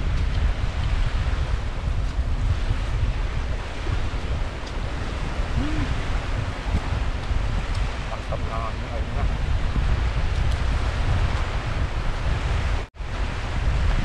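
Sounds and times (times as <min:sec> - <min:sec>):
surf breaking on rocky shore: 0:00.0 - 0:14.0
wind buffeting microphone: 0:00.0 - 0:14.0.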